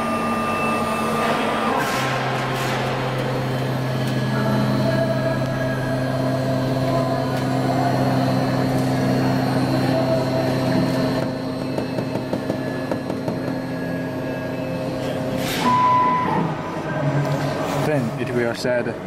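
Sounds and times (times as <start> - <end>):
machine drives humming and whining: 0.0 - 19.0.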